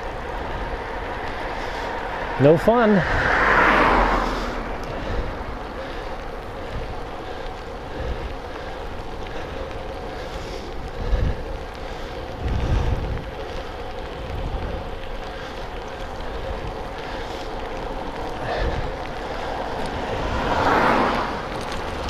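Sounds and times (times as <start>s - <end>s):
light rain: 0.0s - 22.0s
wind rushing over microphone: 0.0s - 22.0s.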